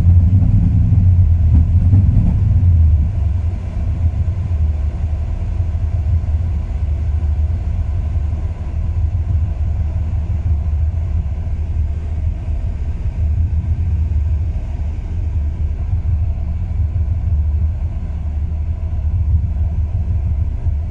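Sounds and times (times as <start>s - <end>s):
engine idling roughly: 0.0s - 20.9s.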